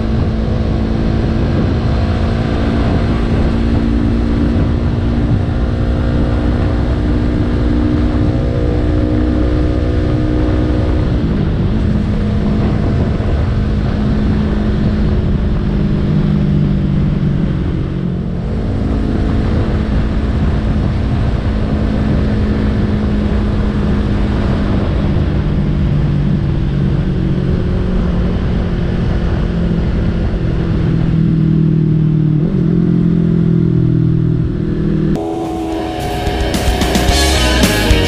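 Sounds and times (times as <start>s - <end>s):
wind and road noise: 0.0s - 37.5s
motorcycle engine cruising: 0.0s - 38.0s.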